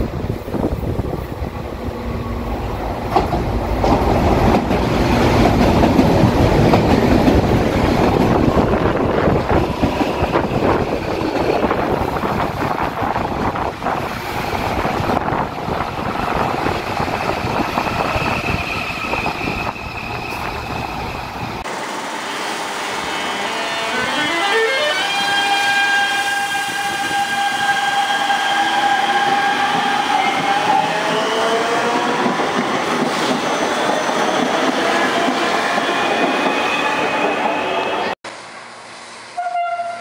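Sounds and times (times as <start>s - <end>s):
train pulling in: 0.0s - 40.0s.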